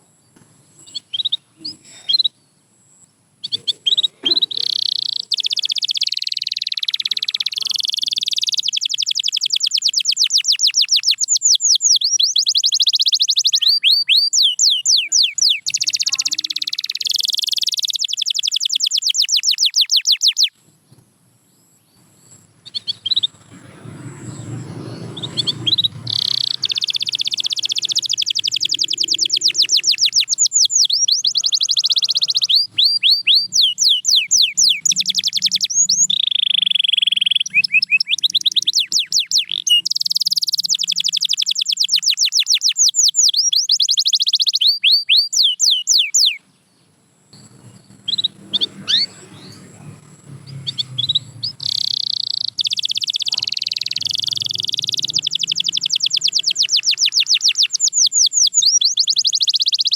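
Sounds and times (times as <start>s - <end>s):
canary singing trills: 0.0s - 20.6s, 21.5s - 59.9s.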